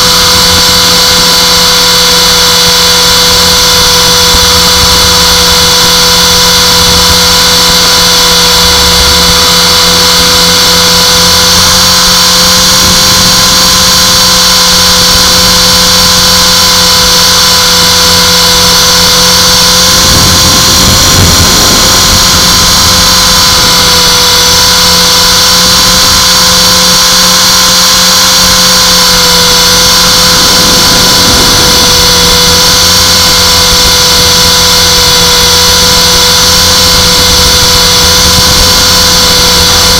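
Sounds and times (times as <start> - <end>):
rc helicopter motor whining: 0.0 - 39.9
rotor noise rushing: 0.0 - 39.9.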